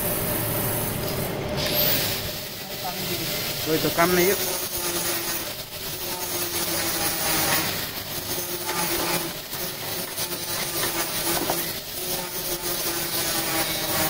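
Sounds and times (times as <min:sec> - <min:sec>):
buffing machine motor hum: 0:00.0 - 0:14.0
wheel hissing against metal: 0:00.0 - 0:14.0.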